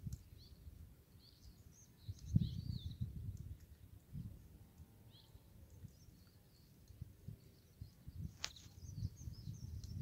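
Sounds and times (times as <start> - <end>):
faint high bird chirps: 0.1 - 4.4, 5.0 - 10.0.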